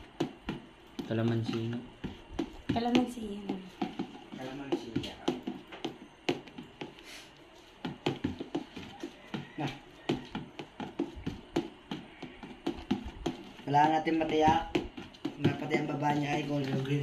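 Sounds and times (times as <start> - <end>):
stick knocking plastic basin: 0.0 - 7.0, 7.8 - 17.0.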